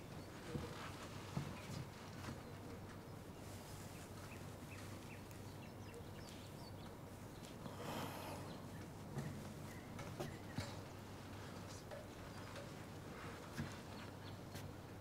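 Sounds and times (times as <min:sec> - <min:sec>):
soft rustle: 0:00.0 - 0:15.0
steady low hum: 0:00.0 - 0:15.0.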